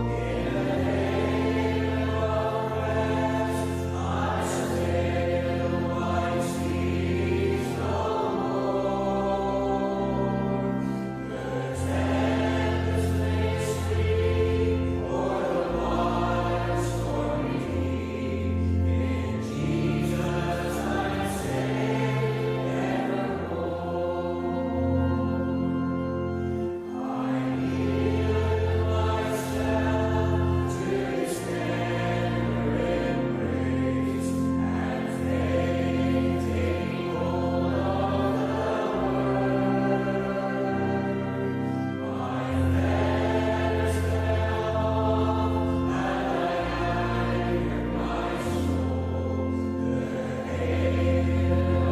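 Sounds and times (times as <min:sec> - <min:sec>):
choir singing slow chords: 0:00.0 - 0:51.9.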